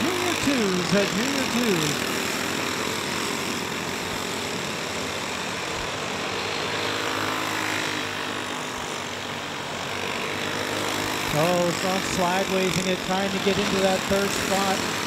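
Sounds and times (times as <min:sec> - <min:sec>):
go-kart engines racing: 0:00.0 - 0:15.0.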